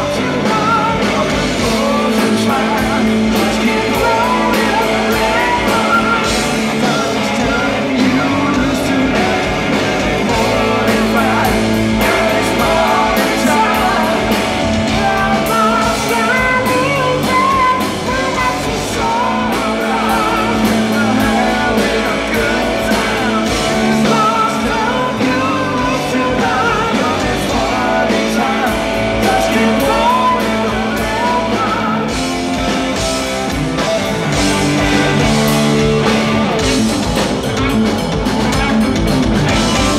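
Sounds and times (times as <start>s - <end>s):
live rock band playing: 0.0s - 39.9s
man singing lead: 0.0s - 39.9s.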